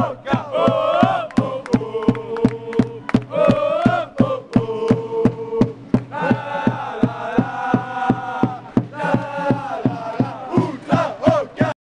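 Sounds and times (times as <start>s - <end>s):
crowd chanting and singing: 0.0s - 11.8s
drum steady beat: 0.0s - 11.8s.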